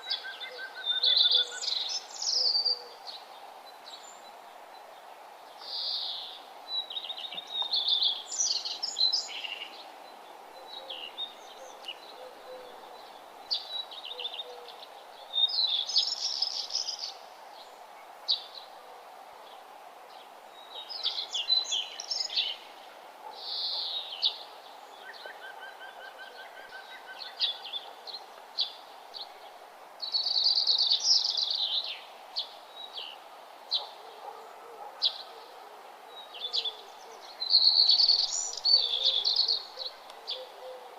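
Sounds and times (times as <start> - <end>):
background hiss: 0.0 - 40.9
songbirds chirping and trilling: 0.0 - 40.9.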